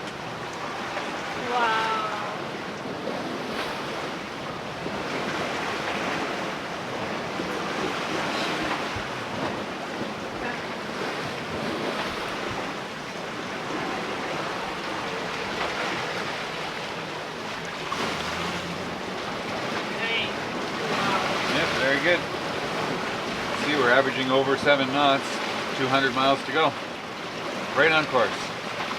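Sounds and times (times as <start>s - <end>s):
sea wash: 0.0s - 28.9s
wind: 0.0s - 28.9s.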